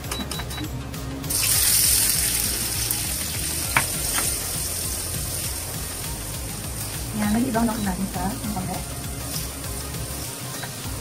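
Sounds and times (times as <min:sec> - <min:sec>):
onions sizzling in hot oil: 0:01.3 - 0:11.0.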